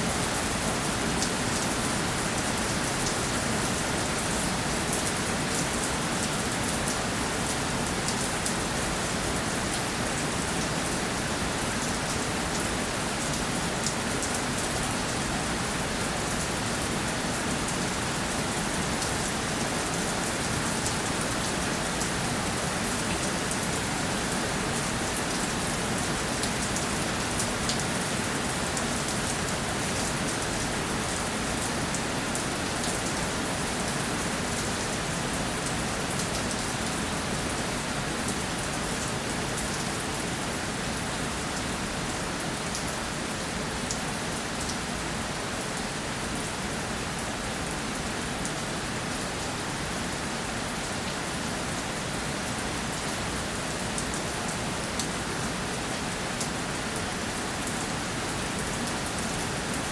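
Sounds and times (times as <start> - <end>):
rain hissing on a surface: 0.0 - 59.9.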